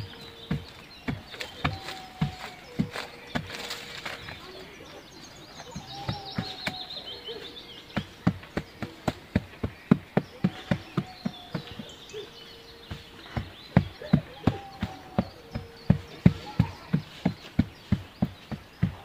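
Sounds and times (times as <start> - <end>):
hand scraping dry soil: 0.0 - 19.0.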